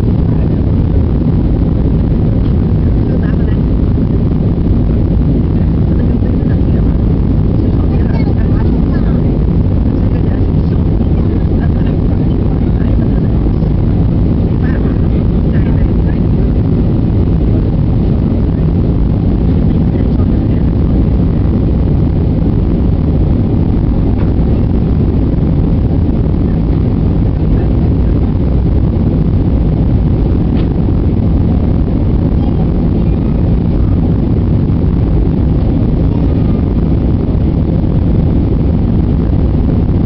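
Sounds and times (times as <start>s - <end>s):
jet airliner cabin noise: 0.0s - 40.0s.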